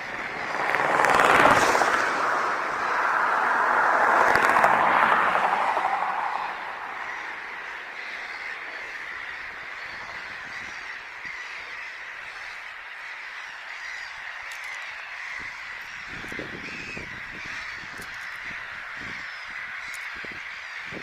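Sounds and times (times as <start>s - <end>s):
chorus of small animal calls: 0.0s - 21.0s.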